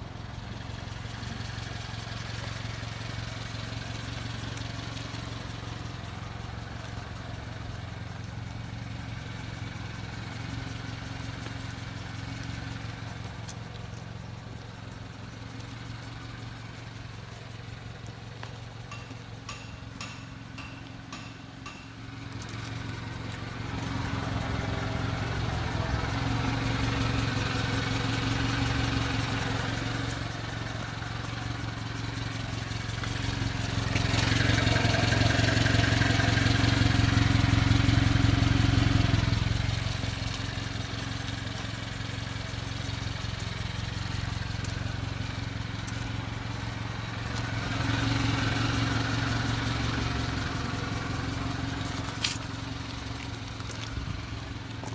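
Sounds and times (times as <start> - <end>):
truck engine running: 0.0 - 54.9.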